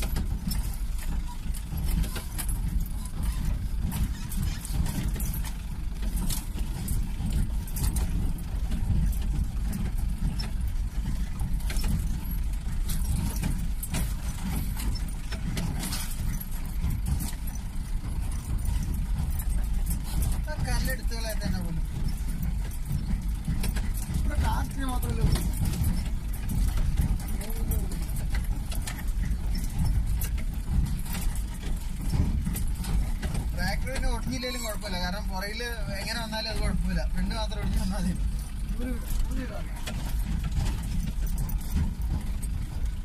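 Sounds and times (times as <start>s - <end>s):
truck body rattling and knocking: 0.0s - 43.0s
truck engine rumbling: 0.0s - 43.0s.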